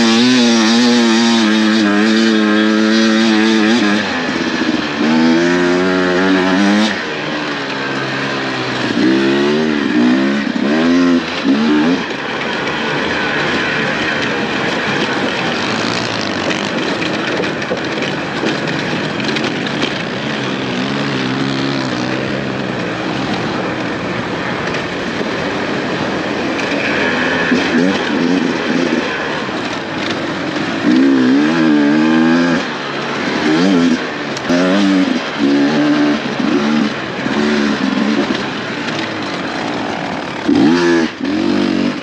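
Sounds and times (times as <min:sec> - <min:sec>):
dirt bike engine revving: 0:00.0 - 0:42.0
steady rushing noise: 0:00.0 - 0:42.0.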